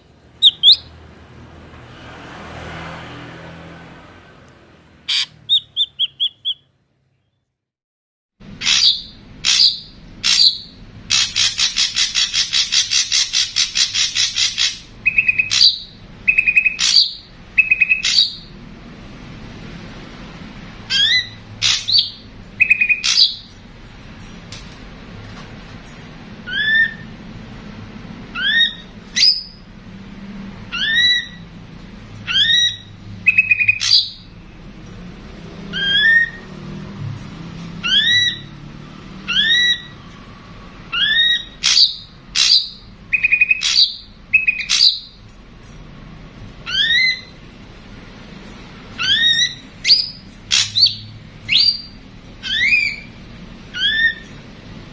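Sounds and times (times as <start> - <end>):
birds calling: 0.0 - 1.4, 3.9 - 7.5, 8.4 - 18.8, 20.6 - 23.8, 26.4 - 27.2, 28.2 - 29.8, 30.5 - 36.8, 37.5 - 45.8, 46.4 - 54.9.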